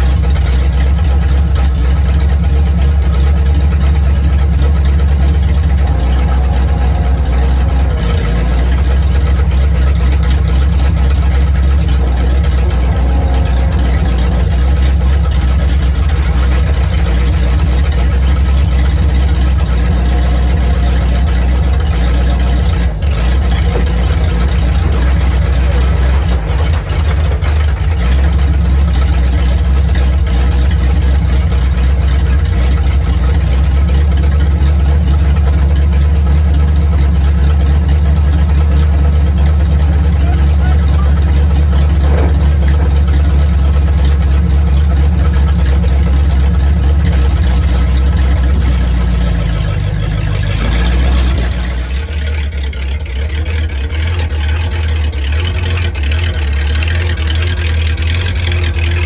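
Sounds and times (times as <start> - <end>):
hydraulic dump bed moving: 0.0 - 59.0
truck engine running: 0.0 - 59.0.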